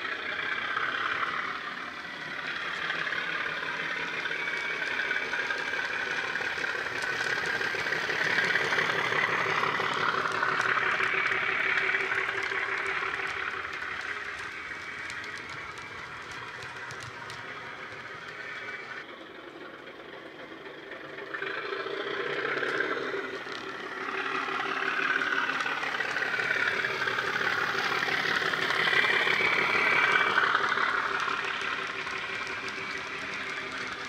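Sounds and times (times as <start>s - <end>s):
diesel engine sound from speaker: 0.0s - 34.0s
model train running on track: 0.0s - 34.0s.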